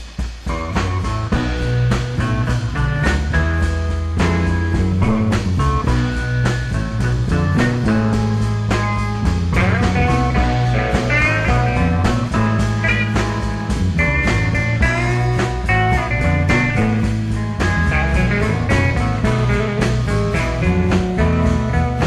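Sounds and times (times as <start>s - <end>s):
bass guitar: 0.0s - 22.0s
drums: 0.0s - 22.0s
electric lead guitar: 0.0s - 22.0s.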